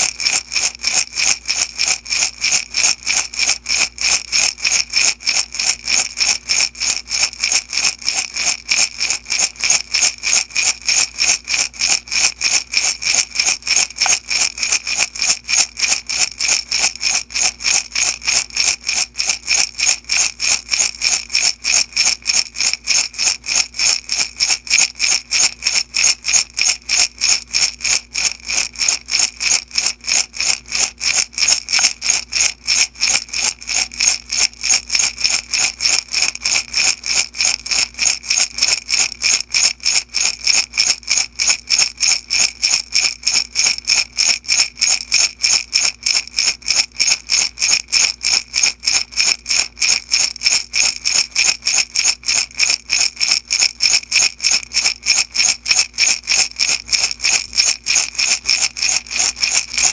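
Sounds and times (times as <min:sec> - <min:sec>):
beads rattling in glass jar: 0:00.0 - 0:59.9.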